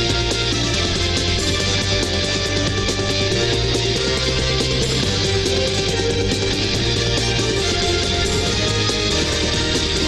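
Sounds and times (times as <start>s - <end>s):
fast rock music with guitar: 0.0s - 10.0s.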